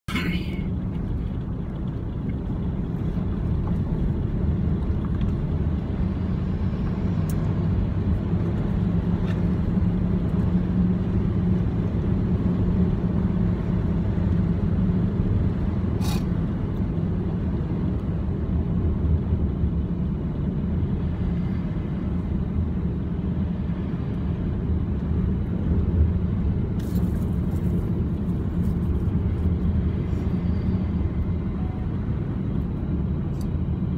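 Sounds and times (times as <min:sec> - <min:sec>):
vehicle engine and road noise: 0:00.0 - 0:33.9.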